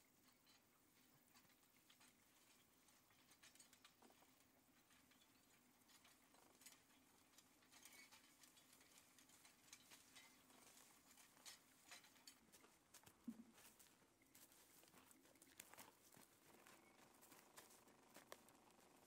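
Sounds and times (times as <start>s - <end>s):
soft ticks and crackles: 0.0s - 19.0s.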